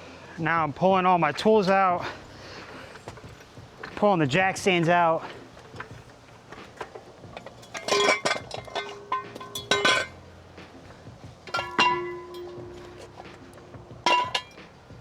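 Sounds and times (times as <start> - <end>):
metal tools clanking: 1.4 - 14.9.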